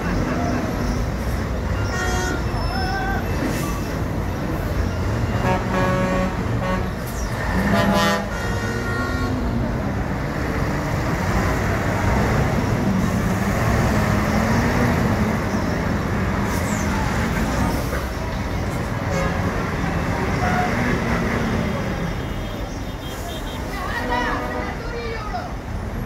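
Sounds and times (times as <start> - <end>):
truck diesel engine under load: 0.0 - 23.3.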